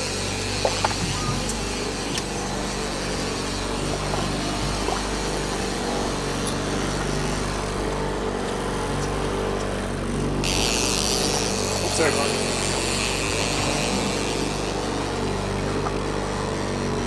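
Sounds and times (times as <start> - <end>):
water noise: 0.0 - 9.6, 10.5 - 17.0
boat engine humming: 0.0 - 17.0
wind: 0.0 - 17.0.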